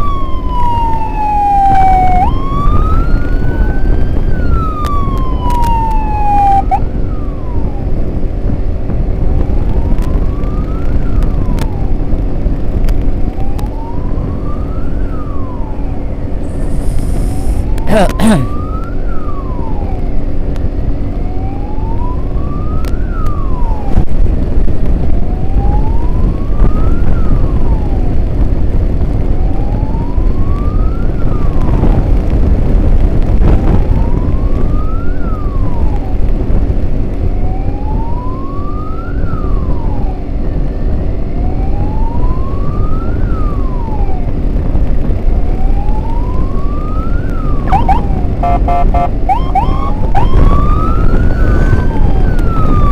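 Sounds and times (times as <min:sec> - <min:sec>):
emergency siren wailing: 0:00.0 - 0:52.9
road and wind rumble: 0:00.0 - 0:52.9.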